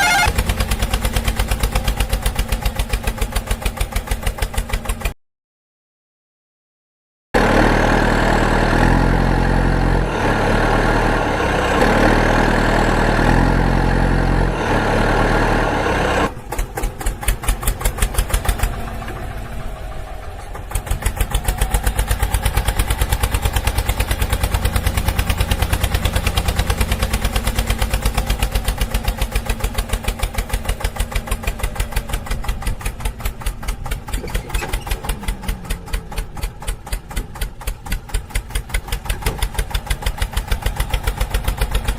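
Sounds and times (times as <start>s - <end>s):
engine chugging: 0.0s - 5.1s, 7.4s - 41.9s.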